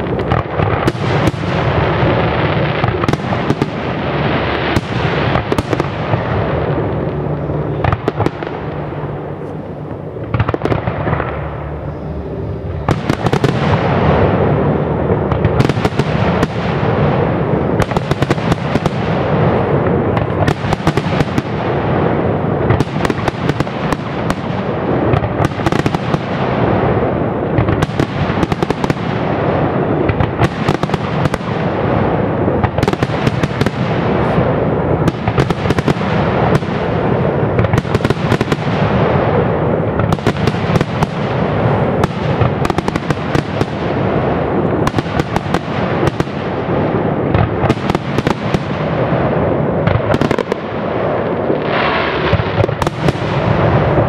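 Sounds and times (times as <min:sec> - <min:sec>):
continuous low rumble: 0:00.0 - 0:54.0.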